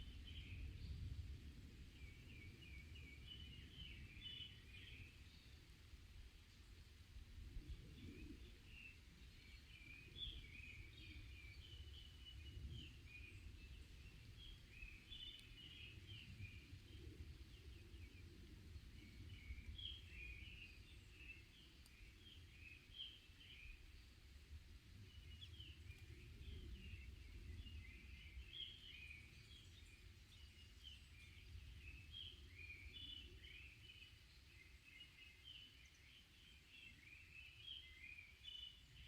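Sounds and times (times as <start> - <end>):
small birds chirping: 7.5 - 39.0.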